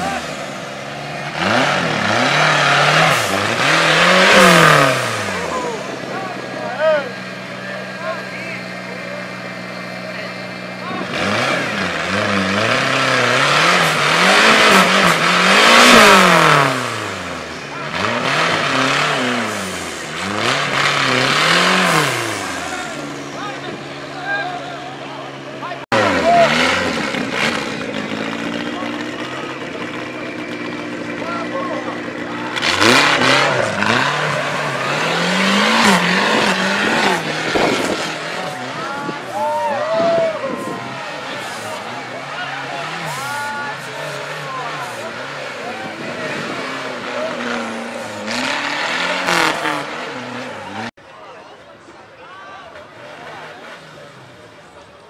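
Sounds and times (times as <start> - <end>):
spinning tyres and flying mud: 0.0 - 24.1, 24.8 - 50.9
buggy engine revving: 0.0 - 51.1, 52.7 - 55.0.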